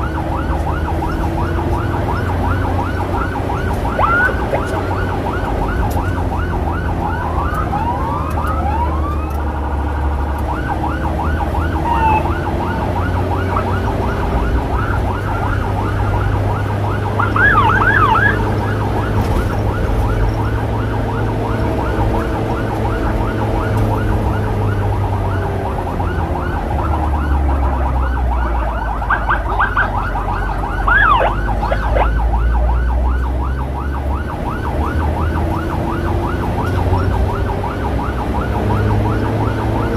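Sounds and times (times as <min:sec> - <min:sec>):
road noise: 0:00.0 - 0:39.9
siren yelping: 0:00.0 - 0:39.9.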